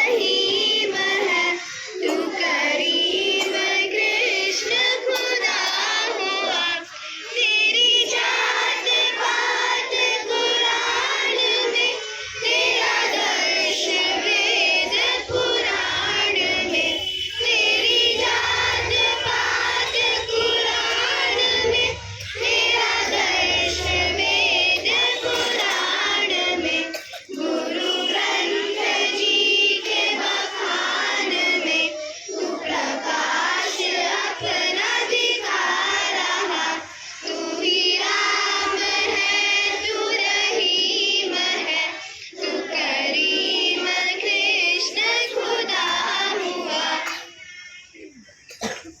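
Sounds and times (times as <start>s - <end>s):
children singing in chorus: 0.0s - 49.0s.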